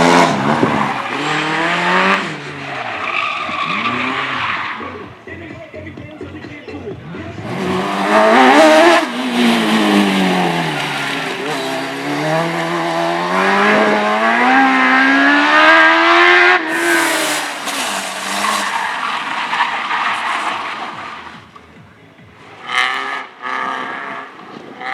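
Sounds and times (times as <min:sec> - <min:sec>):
racing car engine revving: 0:00.0 - 0:06.0, 0:06.8 - 0:24.9.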